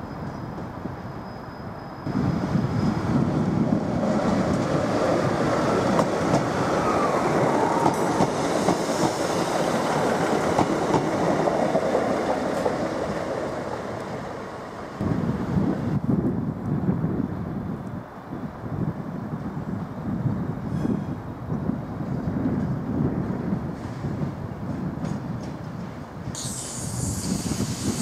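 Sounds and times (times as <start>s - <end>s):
train wheels rumbling on rail: 0.1s - 28.0s.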